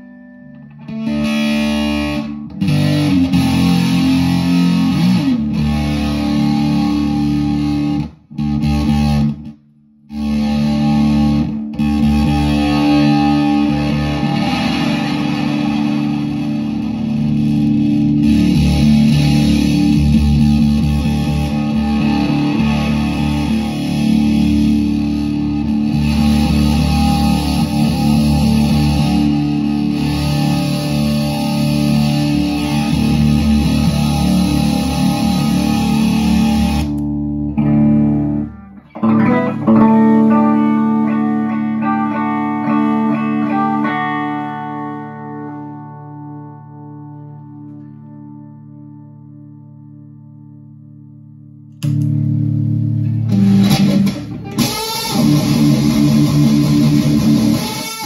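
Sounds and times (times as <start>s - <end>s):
distorted electric guitar chords: 0.0s - 58.0s.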